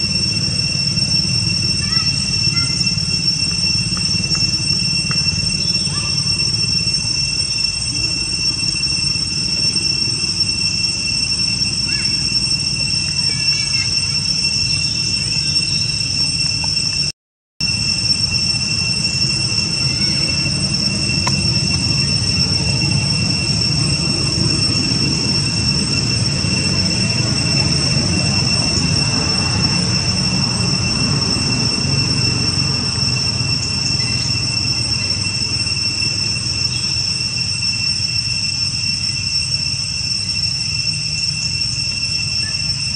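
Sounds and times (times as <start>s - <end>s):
insect drone: 0.0s - 42.9s.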